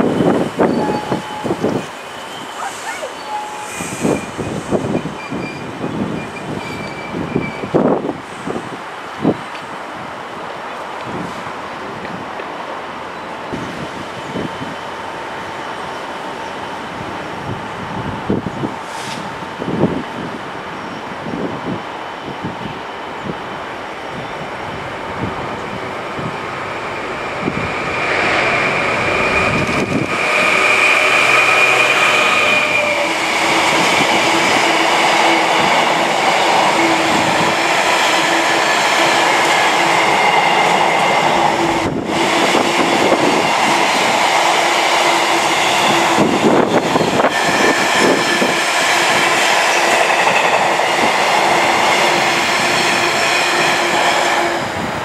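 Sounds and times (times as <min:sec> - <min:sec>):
diesel locomotive passing: 0:00.0 - 0:55.0.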